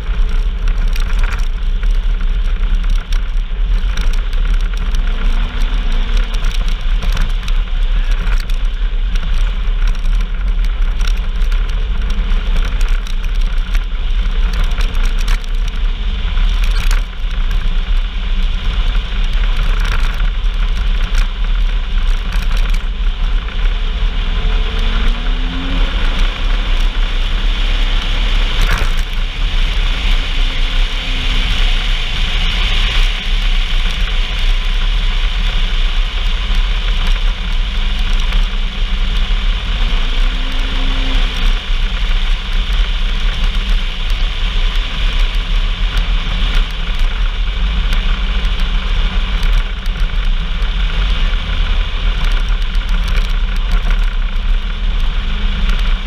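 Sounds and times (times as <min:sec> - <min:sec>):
constant rushing noise: 0:00.0 - 0:56.0
vehicle engine rumbling: 0:00.0 - 0:56.0.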